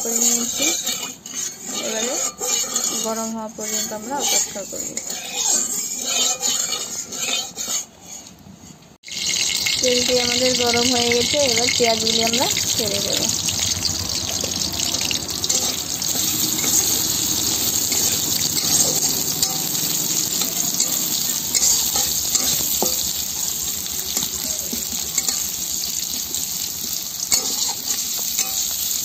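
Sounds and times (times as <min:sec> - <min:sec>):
onions sizzling in hot oil: 0:00.0 - 0:07.6, 0:09.0 - 0:29.0
spatula scraping and tapping pan: 0:00.0 - 0:29.0.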